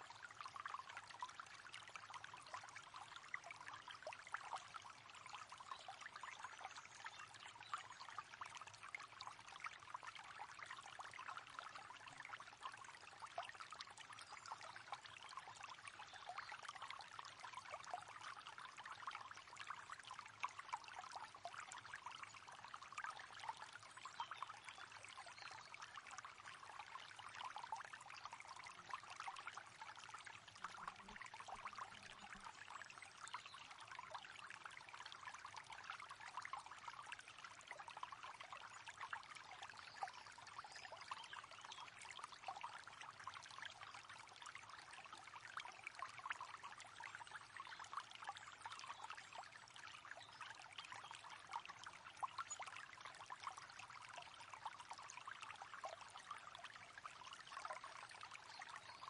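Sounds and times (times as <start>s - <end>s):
river water babbling: 0.0s - 59.0s.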